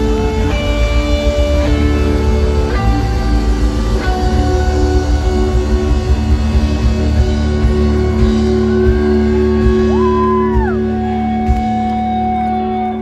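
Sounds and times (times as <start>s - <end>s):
guitar chords: 0.0s - 13.0s
live rock band playing: 0.0s - 13.0s.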